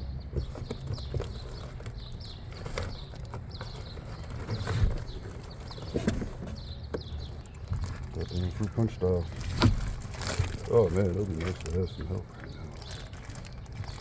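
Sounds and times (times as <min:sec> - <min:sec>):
knocks and clunks: 0:00.3 - 0:14.0.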